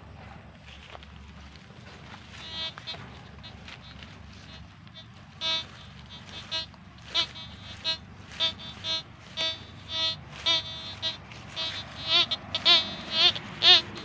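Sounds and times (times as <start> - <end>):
metal detector beeps: 2.3 - 14.0.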